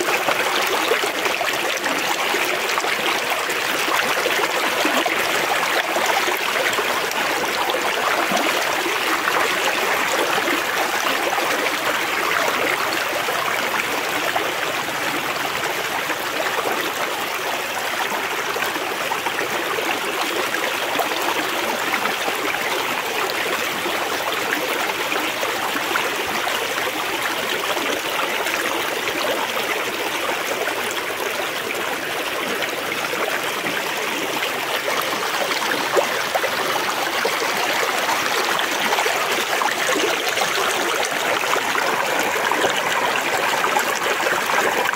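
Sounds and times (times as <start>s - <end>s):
river babbling over stones: 0.0s - 44.9s.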